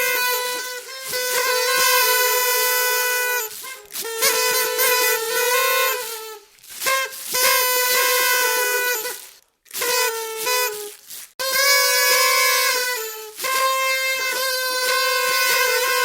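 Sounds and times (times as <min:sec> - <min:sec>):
party horns blaring: 0:00.0 - 0:16.0.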